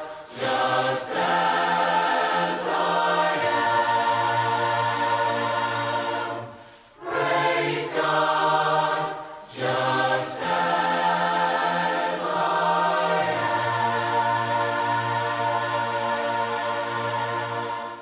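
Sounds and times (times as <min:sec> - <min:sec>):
group singing a hymn: 0:00.0 - 0:18.0.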